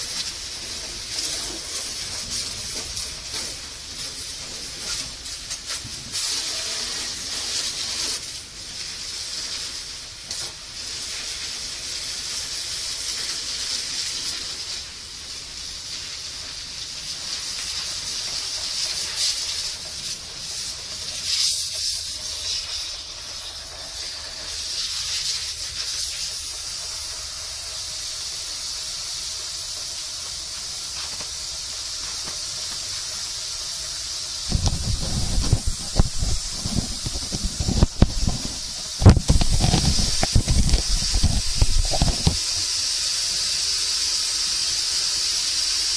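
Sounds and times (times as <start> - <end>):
pressure washer spray hissing: 0.0 - 45.9.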